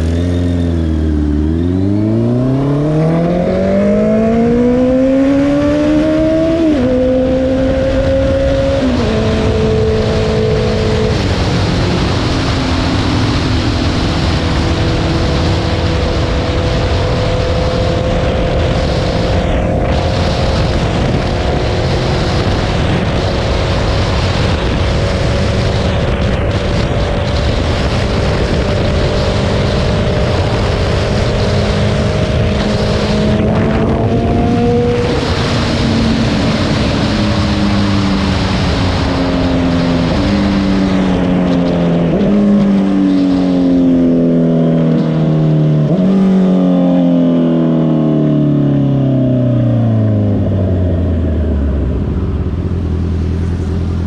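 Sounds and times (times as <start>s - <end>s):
motorcycle engine shifting gears: 0.0s - 54.0s
wind and road rush: 0.0s - 54.0s.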